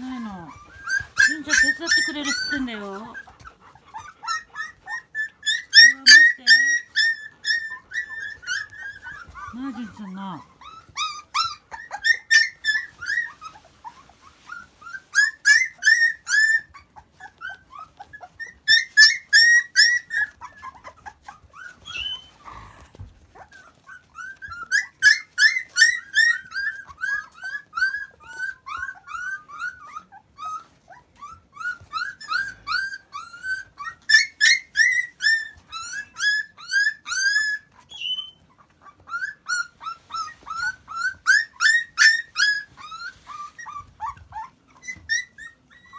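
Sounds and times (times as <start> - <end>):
puppies whining and squealing: 0.0 - 45.9.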